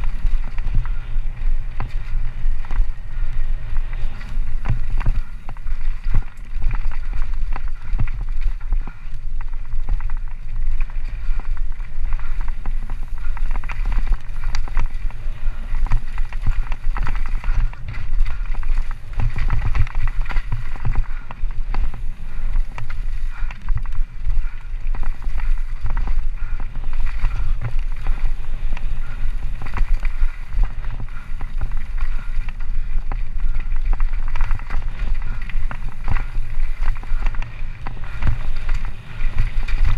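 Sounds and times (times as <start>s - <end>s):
bike knocking and rattling: 0.0s - 39.9s
tyres running over dirt: 0.0s - 39.9s
wind rumble on microphone: 0.0s - 39.9s.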